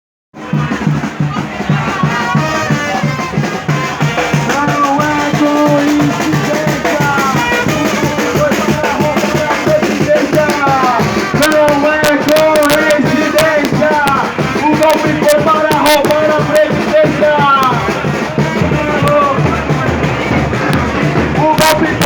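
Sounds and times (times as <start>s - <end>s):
music with steady drum beat: 0.3s - 22.0s
voice over loudspeaker music: 0.4s - 22.0s.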